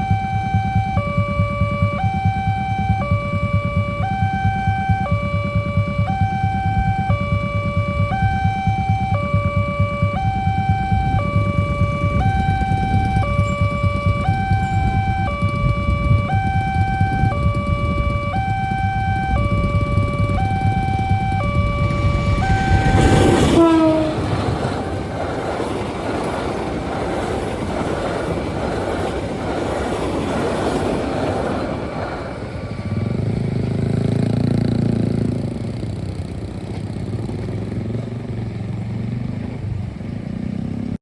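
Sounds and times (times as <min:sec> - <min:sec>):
level crossing warning alarm: 0:00.0 - 0:38.9
train wheels rushing on rails: 0:00.0 - 0:41.0.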